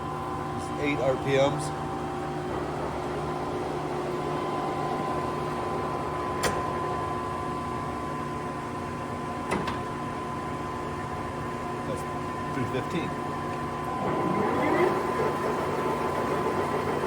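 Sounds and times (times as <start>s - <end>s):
lathe whine: 0.0s - 8.8s, 11.0s - 17.0s
lathe running with hum: 0.0s - 17.0s.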